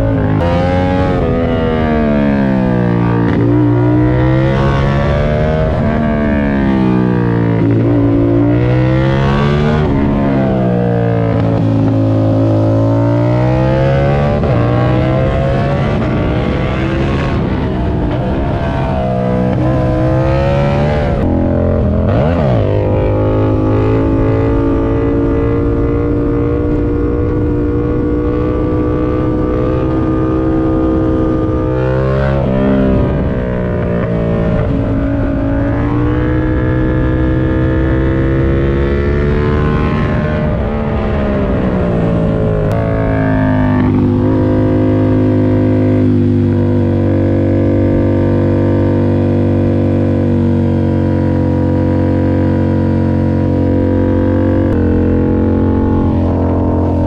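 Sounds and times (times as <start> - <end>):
wind rush: 0.0 - 51.4, 52.0 - 57.0
motorcycle engine under throttle: 0.0 - 57.0.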